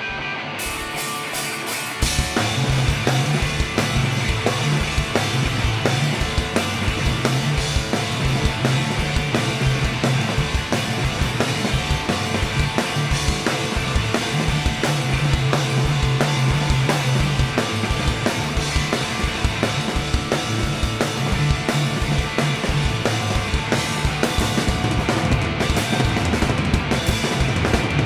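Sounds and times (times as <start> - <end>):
electric guitar: 0.0 - 28.0
drums and bass beat: 0.6 - 28.0.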